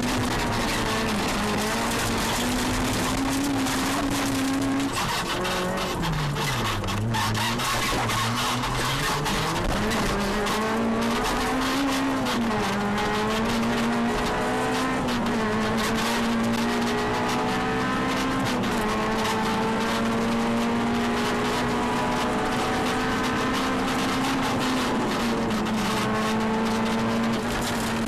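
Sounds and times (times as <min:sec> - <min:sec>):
car engine pulling hard: 0:00.0 - 0:28.0.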